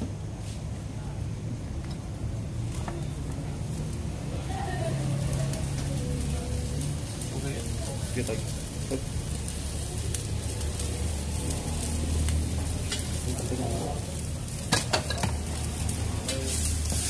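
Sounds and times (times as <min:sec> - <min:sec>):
food sizzling in a wok: 0:00.0 - 0:17.0
gas flame rumble: 0:00.0 - 0:17.0.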